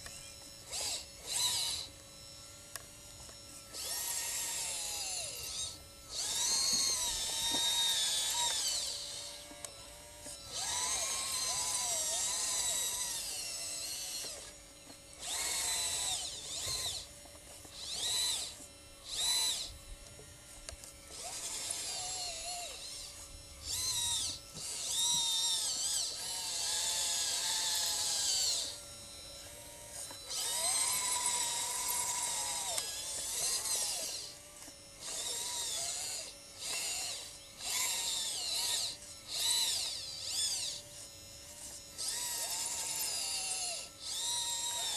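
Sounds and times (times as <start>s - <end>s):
model loader motors whining: 0.0s - 44.9s.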